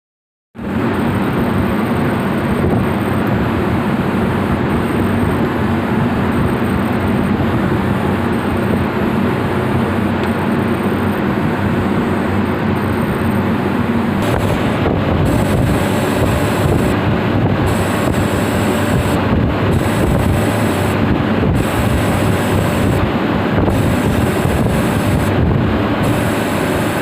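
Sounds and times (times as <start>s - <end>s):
heavy machinery drone: 0.6s - 27.0s.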